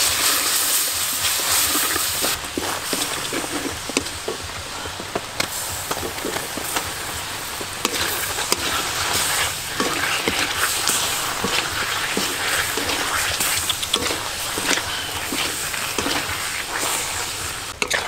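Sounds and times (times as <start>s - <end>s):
hot oil sizzling in wok: 0.0s - 18.0s.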